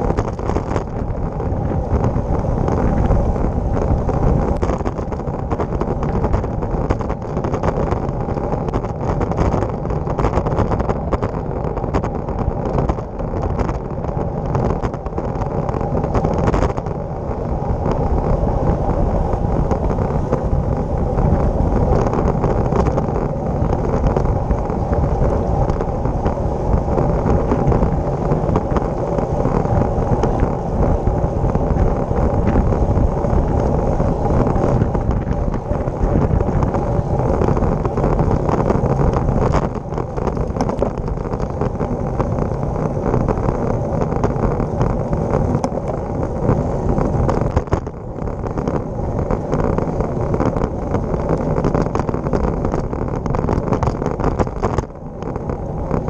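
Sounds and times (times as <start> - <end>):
tyre and road noise: 0.0 - 56.0
wind rushing over microphone: 0.0 - 56.0.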